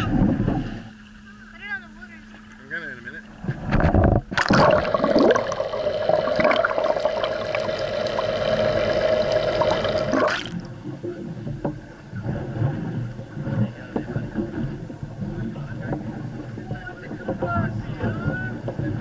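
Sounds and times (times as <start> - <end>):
muffled underwater hum: 0.0 - 19.0
wind: 0.0 - 19.0
water rushing and bubbling: 3.3 - 19.0.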